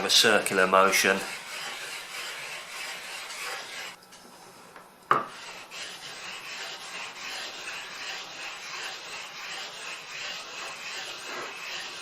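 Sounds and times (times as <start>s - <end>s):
stone grinding on stone: 0.4s - 4.0s, 5.3s - 12.0s.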